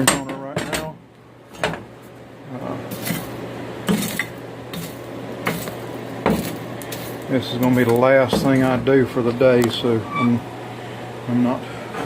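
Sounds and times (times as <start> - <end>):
forge fire air hum: 0.0 - 12.0.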